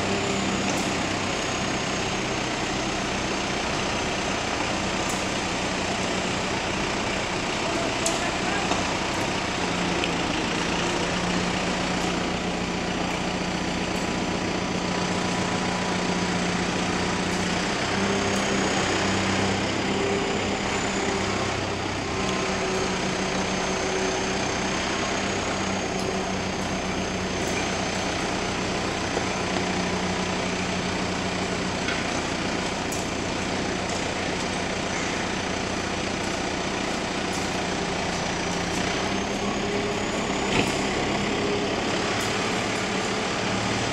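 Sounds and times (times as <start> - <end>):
engine idling hum: 0.0 - 43.9.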